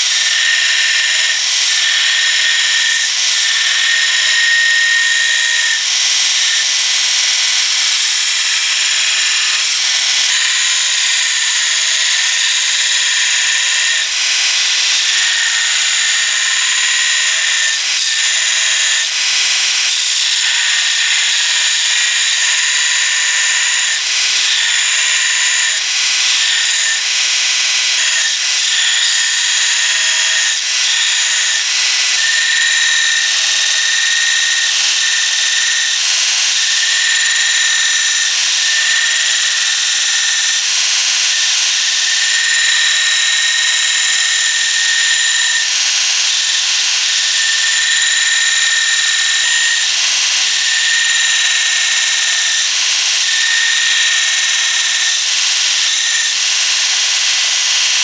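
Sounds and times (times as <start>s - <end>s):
power tool whining on steel: 0.0s - 58.0s.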